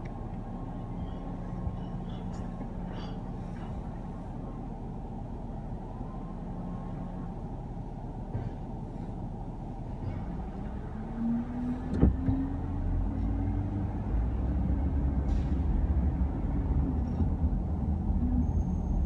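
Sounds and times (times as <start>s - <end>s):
garbage truck engine rumbling: 0.0s - 19.0s.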